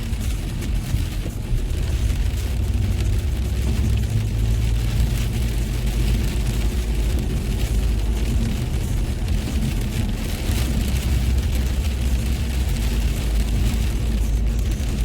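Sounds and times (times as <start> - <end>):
car road and engine rumble: 0.0 - 15.0
rain and spray hissing: 0.0 - 15.0.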